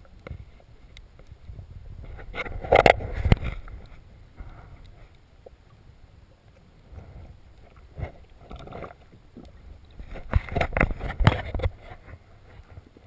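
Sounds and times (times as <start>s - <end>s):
muffled underwater water rumble: 0.0s - 13.0s
underwater swishes: 0.0s - 13.0s.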